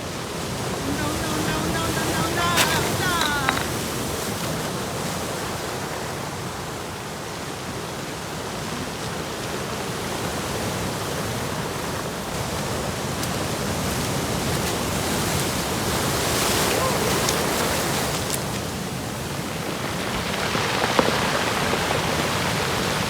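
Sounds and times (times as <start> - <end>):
waves breaking: 0.0 - 23.0.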